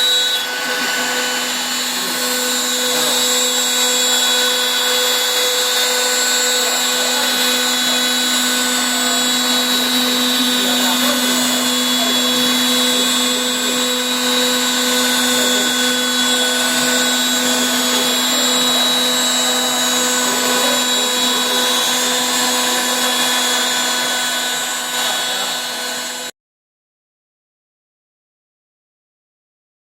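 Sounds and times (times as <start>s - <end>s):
milling cutting noise: 0.0s - 26.3s
spindle high whine: 0.0s - 26.3s.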